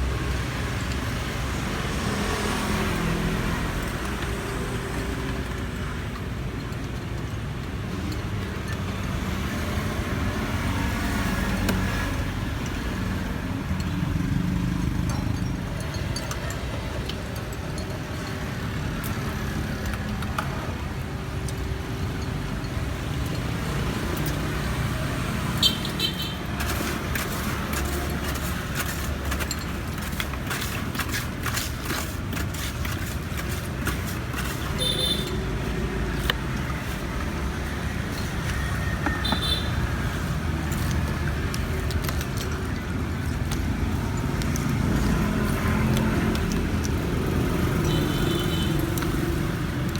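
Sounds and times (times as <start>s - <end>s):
vehicle engines passing: 0.0s - 49.9s.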